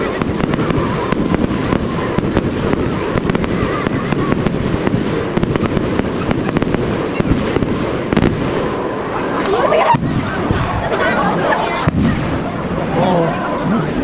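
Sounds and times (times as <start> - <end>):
fireworks crackling: 0.0 - 14.0
low rumble of firework bursts: 0.0 - 14.0.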